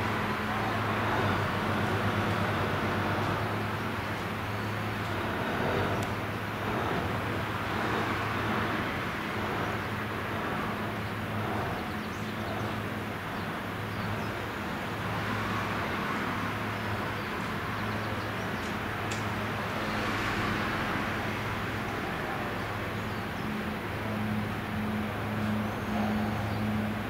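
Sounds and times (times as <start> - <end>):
low engine hum: 0.0 - 27.0
outdoor machinery noise: 0.0 - 27.0.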